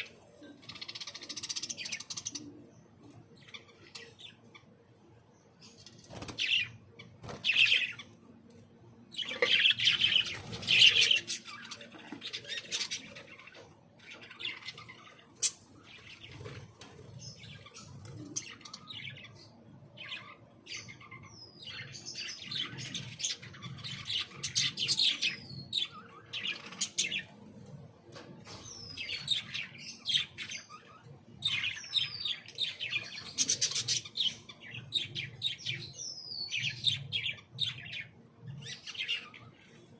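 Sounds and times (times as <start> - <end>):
small birds chirping and chattering: 0.0 - 39.9.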